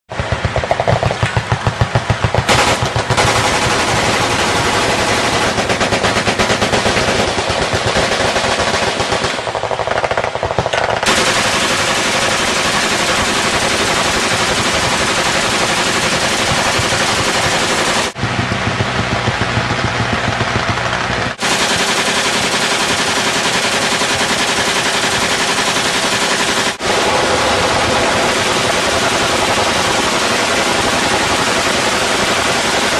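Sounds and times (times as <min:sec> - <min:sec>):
machine gun automatic fire: 0:00.1 - 0:32.9.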